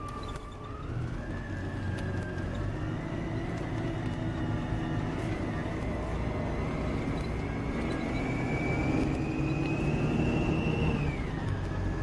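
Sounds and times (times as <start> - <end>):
coach engine rumble from inside: 0.0 - 10.0.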